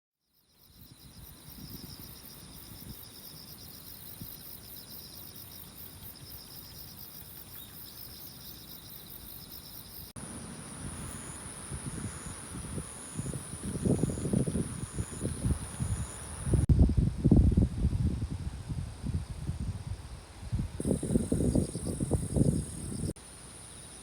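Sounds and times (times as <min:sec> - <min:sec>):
insects trilling: 0:00.3 - 0:16.7, 0:20.8 - 0:24.0.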